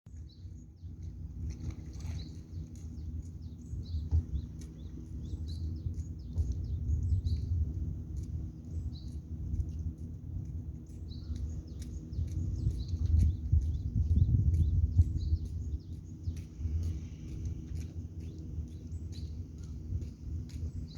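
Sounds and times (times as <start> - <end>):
birds chirping: 0.1 - 20.9
steady low rumble: 0.1 - 20.9.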